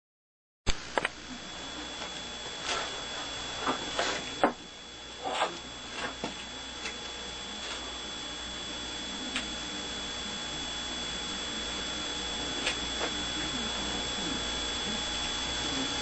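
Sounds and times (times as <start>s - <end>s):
steady hum with high whine: 0.7s - 16.0s.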